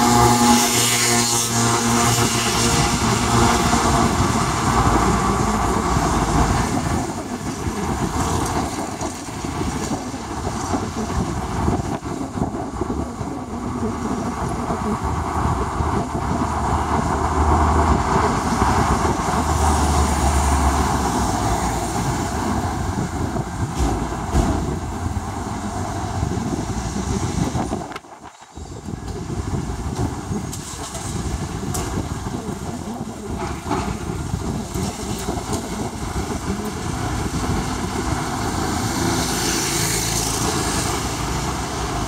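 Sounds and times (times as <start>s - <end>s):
street traffic rumble: 0.0s - 42.0s.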